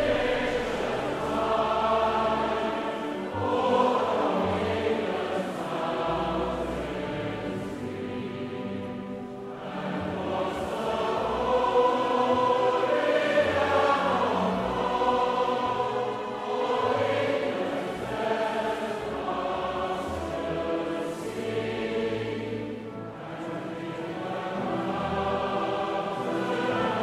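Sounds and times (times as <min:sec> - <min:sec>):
choir singing long held notes: 0:00.0 - 0:27.0.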